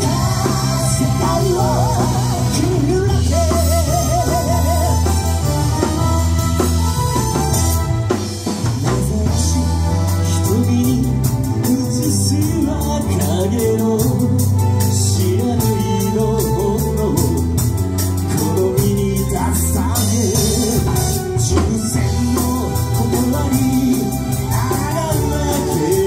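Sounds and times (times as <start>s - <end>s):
person singing with vibrato: 0.0s - 6.7s, 8.7s - 26.0s
live band through speakers: 0.0s - 26.0s.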